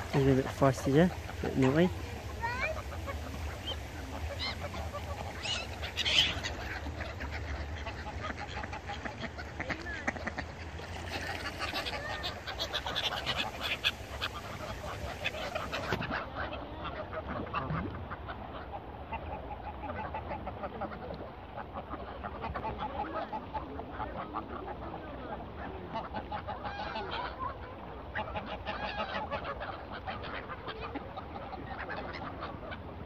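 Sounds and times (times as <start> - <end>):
geese honking: 0.0 - 33.0.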